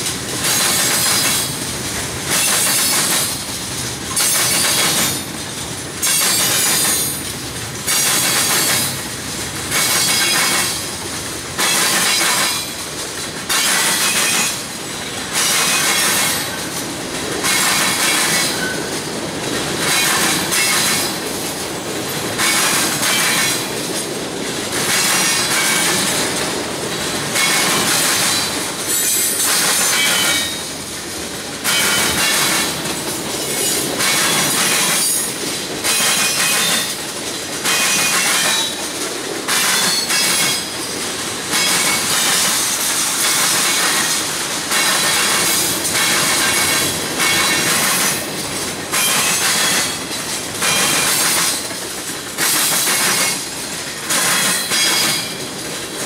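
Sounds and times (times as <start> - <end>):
train rolling rumble: 0.0 - 56.0
train wheels clattering over crossing: 0.0 - 56.0.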